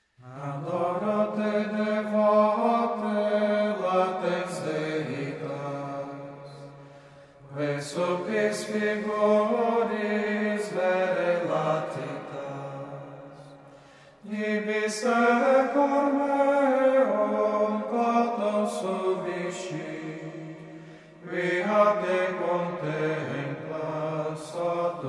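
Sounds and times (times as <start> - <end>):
voices chanting slowly: 0.0 - 25.0.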